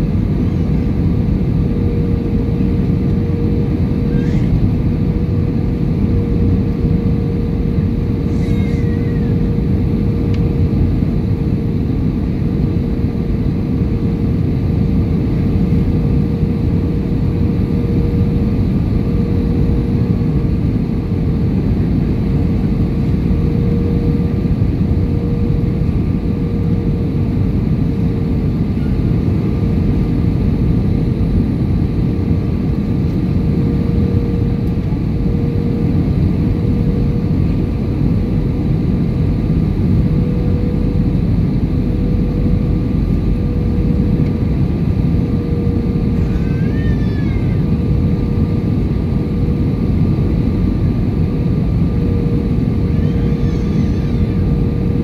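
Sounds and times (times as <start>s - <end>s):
jet engine cabin roar: 0.0s - 55.0s.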